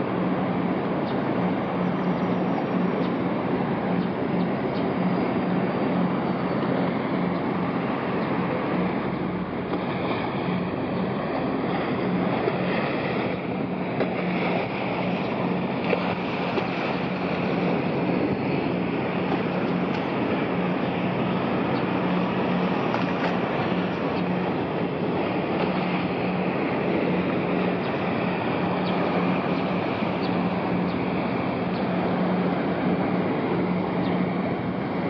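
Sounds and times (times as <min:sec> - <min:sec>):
low turbine hum: 0:00.0 - 0:35.0
rushing churned water: 0:00.0 - 0:35.0
wind: 0:00.0 - 0:35.0.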